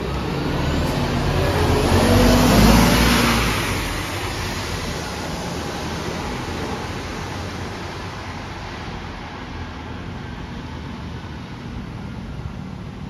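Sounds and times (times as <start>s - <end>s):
bus road and engine noise: 0.0s - 13.0s.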